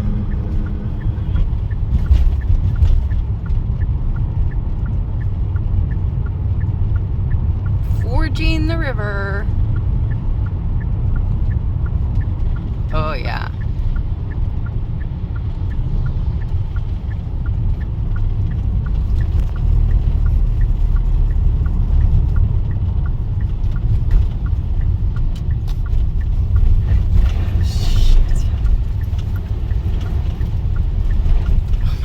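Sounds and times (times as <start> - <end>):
car road noise rumble: 0.0 - 32.0
faint regular ticking: 0.0 - 32.0.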